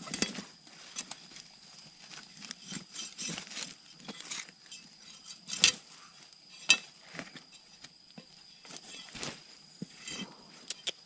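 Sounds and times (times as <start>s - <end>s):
handling rustles and light clicks: 0.0s - 11.0s.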